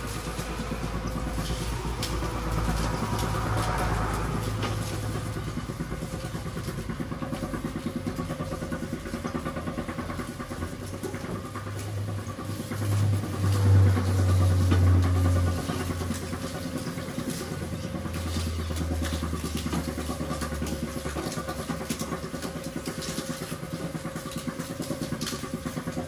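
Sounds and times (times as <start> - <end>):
rollers crushing cane stalks: 0.0 - 26.0
sugarcane mill motor humming: 0.0 - 26.0.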